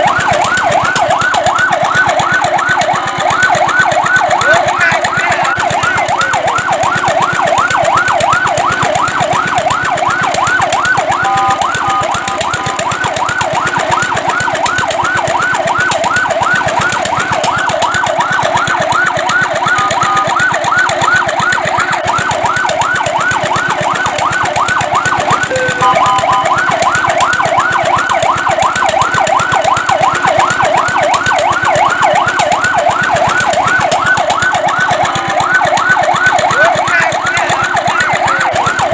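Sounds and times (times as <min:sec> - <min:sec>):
fire truck siren yelping: 0:00.0 - 0:38.9
steady multi-note siren tone: 0:00.0 - 0:38.9.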